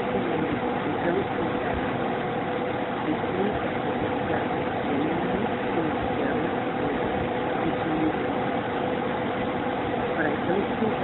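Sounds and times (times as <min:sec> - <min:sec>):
droning machine hum: 0:00.0 - 0:11.0.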